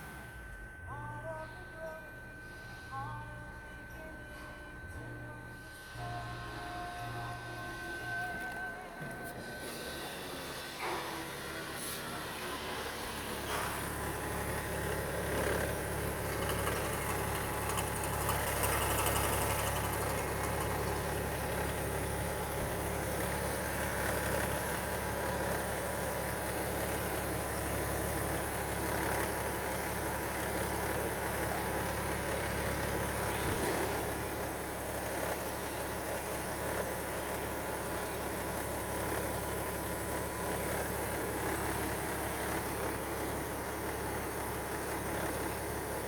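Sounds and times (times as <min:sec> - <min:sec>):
diesel engine idling with clatter: 0:00.0 - 0:46.0.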